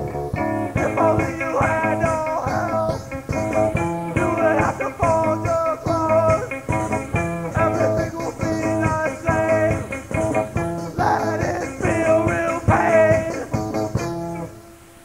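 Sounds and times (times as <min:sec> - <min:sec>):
punk rock song on cassette: 0:00.0 - 0:14.6
tape hiss: 0:00.0 - 0:15.0.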